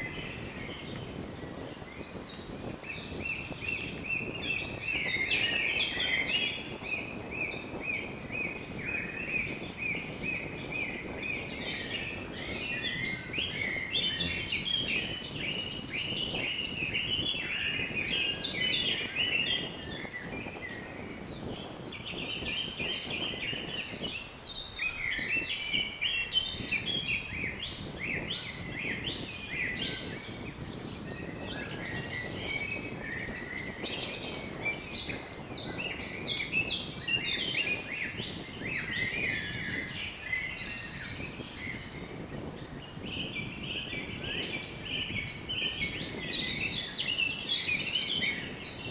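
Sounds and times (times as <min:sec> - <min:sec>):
low rush of wind: 0:00.0 - 0:48.9
small birds chirping: 0:00.0 - 0:48.9.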